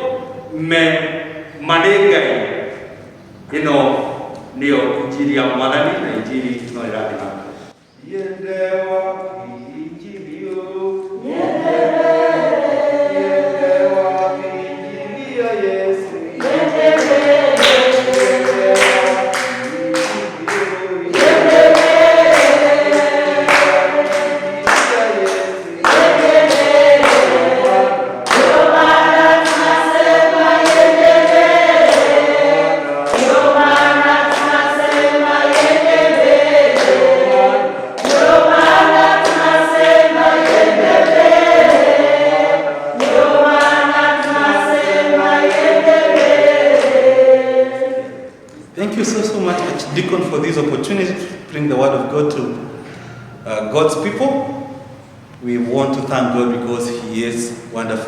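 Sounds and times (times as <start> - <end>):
choir singing in harmony: 0.0 - 7.0, 8.0 - 51.8.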